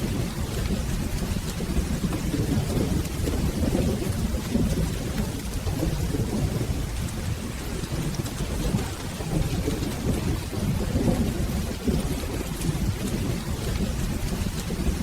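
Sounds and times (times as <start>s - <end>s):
distant thunder rumble: 0.0s - 15.0s
steady rain: 0.0s - 15.0s.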